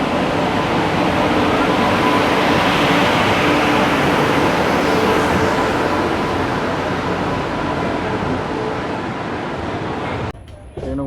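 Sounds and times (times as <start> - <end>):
passenger train rumble: 0.0 - 11.0.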